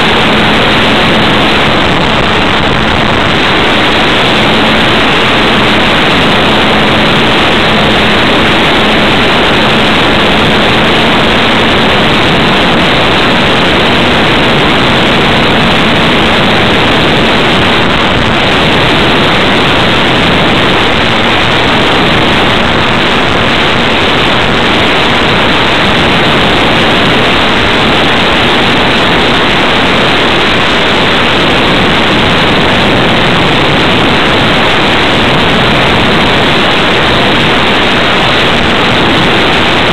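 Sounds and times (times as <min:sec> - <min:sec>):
faint hum: 0:00.0 - 0:39.9
wind rushing over microphone: 0:00.0 - 0:39.9.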